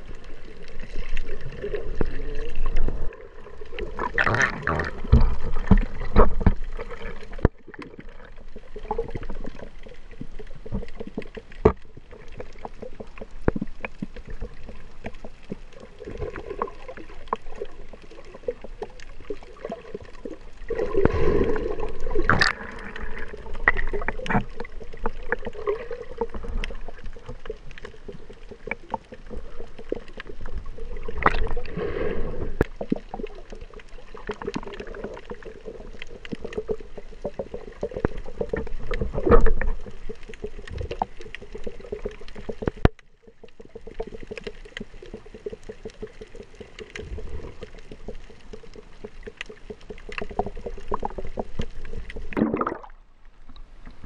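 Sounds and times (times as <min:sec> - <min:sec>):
muffled underwater water movement: 0:00.0 - 0:54.0.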